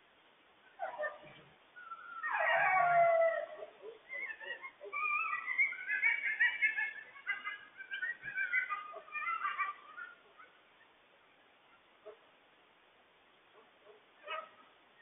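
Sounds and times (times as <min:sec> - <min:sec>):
coyotes howling and yipping: 0:00.7 - 0:12.2, 0:13.6 - 0:15.0.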